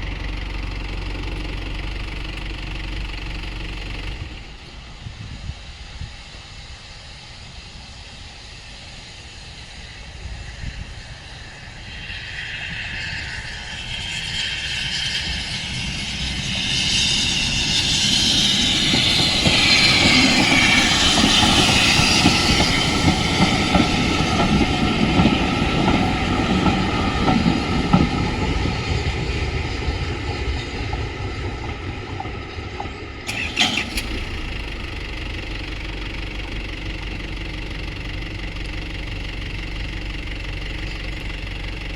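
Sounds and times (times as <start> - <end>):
train rumbling past: 0.0 - 41.9.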